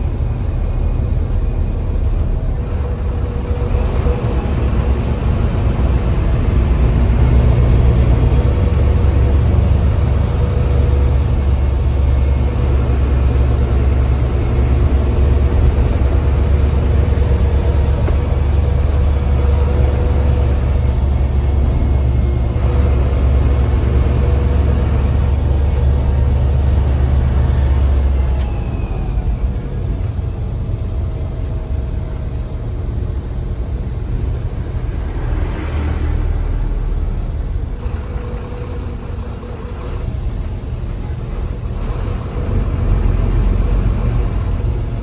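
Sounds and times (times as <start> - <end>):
bus diesel engine rumble: 0.0 - 45.0.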